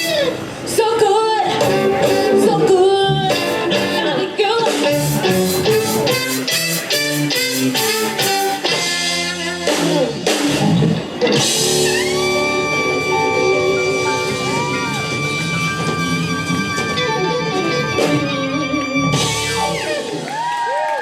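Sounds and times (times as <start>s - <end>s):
live band with guitar and drums: 0.0s - 21.0s.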